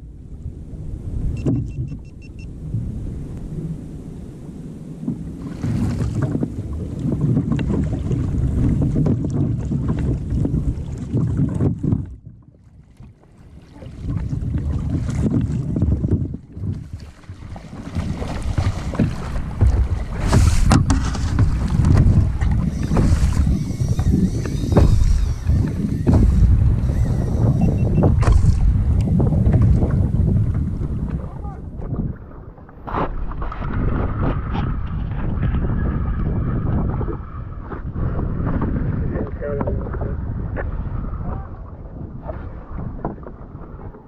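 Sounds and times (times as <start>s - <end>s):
water sloshing against hull: 0.0s - 44.0s
wind rumbling on microphone: 0.0s - 44.0s.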